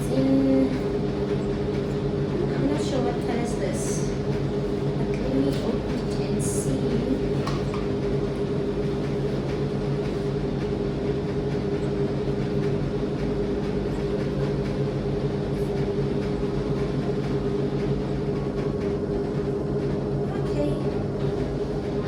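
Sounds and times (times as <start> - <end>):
low machine-like hum: 0.0 - 22.0.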